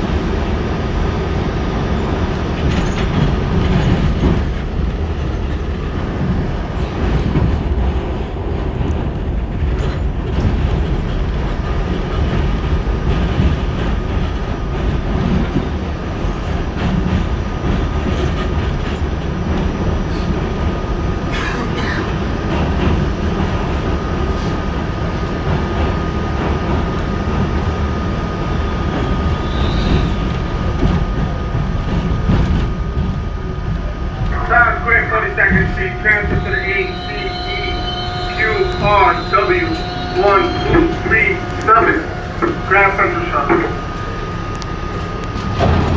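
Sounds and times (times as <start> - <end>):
subway wheels rumbling: 0.0 - 45.9.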